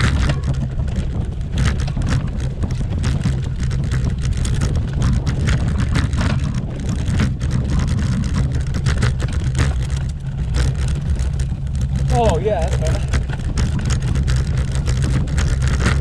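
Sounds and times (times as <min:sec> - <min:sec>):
bicycle rattling over cobblestones: 0:00.0 - 0:16.0.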